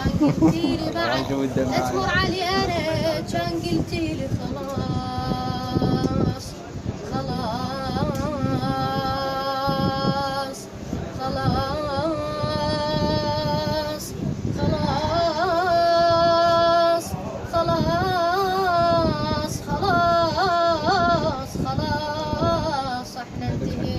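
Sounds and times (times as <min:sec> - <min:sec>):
child singing a sad song: 0:00.0 - 0:23.9.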